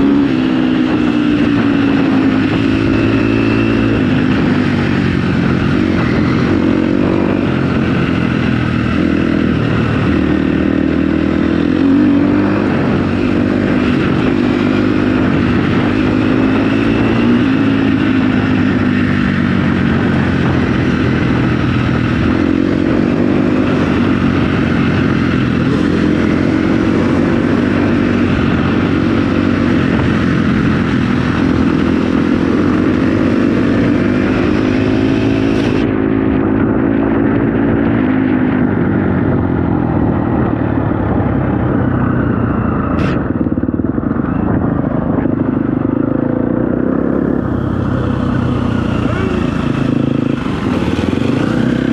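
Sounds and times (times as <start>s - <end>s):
dirt bike engine running hard: 0.0s - 51.9s.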